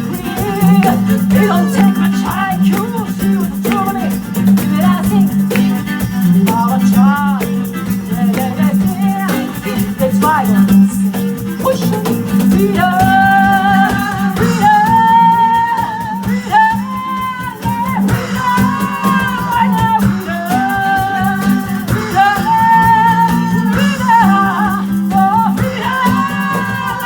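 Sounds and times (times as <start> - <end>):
shaker rattle: 0.0 - 27.0
soul band music: 0.0 - 27.0.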